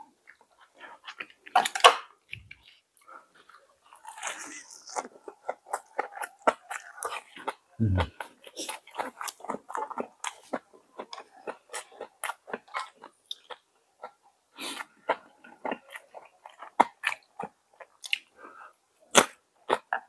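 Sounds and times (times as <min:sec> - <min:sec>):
person chewing wetly: 0:00.2 - 0:20.0.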